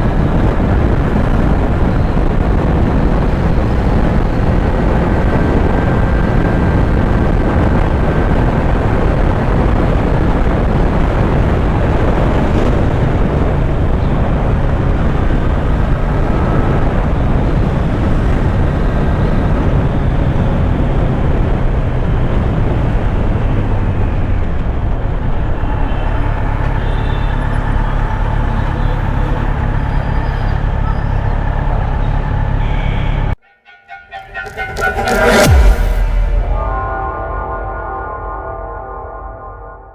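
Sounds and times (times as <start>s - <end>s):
motorcycle engine running: 0.0s - 33.4s
wind noise on microphone: 0.0s - 33.4s, 34.4s - 37.9s.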